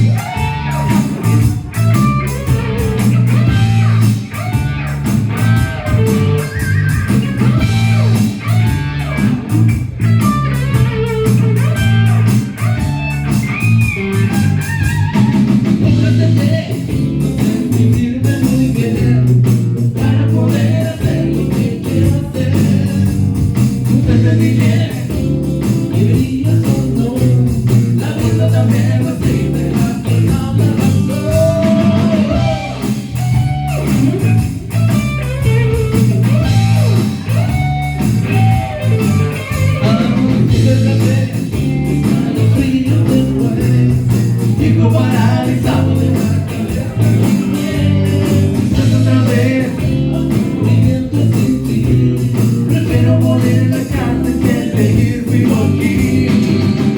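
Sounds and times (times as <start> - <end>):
bass line: 0.0 - 56.9
electric guitar: 0.0 - 56.9.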